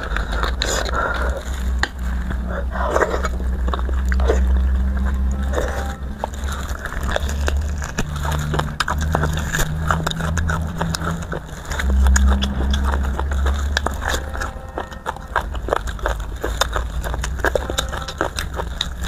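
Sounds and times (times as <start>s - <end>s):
steady low hum: 0.0s - 19.0s
wet chewing and sucking: 0.0s - 19.0s.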